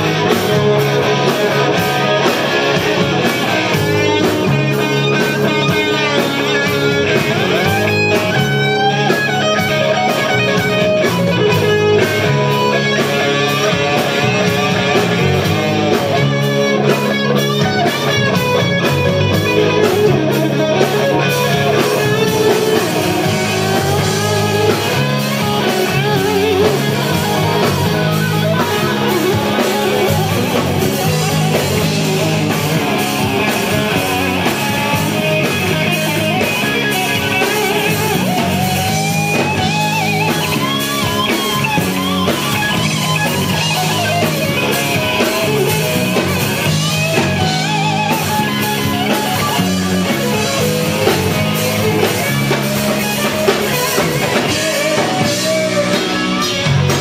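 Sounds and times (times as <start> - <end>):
bass guitar: 0.0 - 57.0
distorted electric guitar lead: 0.0 - 57.0
drums: 0.0 - 57.0.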